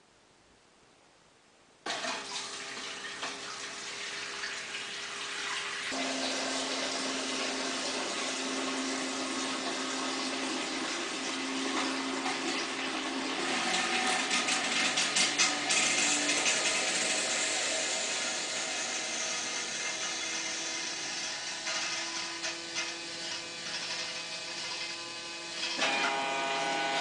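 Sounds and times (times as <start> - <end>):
pump motor hum: 1.9 - 27.0.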